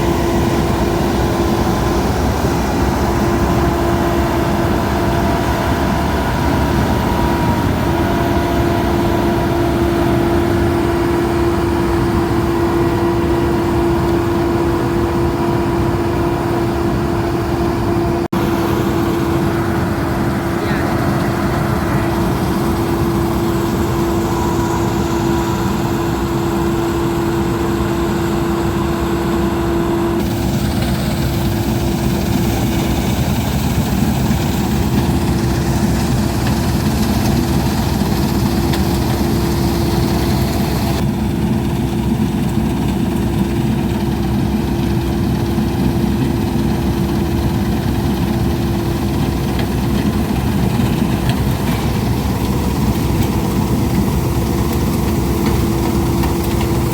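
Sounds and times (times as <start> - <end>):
engine rumble: 0.0 - 56.9
harvester whine: 0.0 - 56.9.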